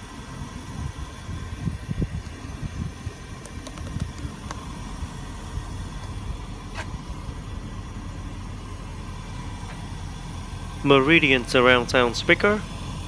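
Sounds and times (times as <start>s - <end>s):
car cabin rumble and hiss: 0.0s - 13.0s.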